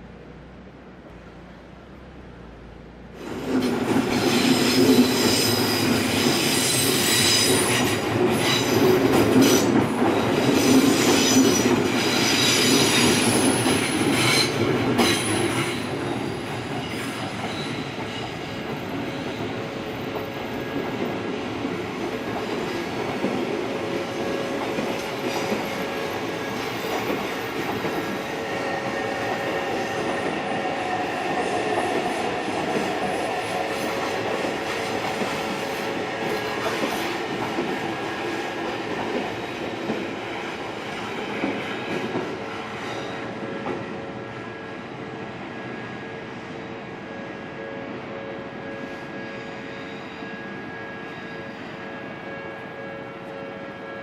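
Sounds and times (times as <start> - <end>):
electric train running past: 0.1 - 54.0
train wheels squealing on rails: 3.2 - 44.9, 45.5 - 54.0.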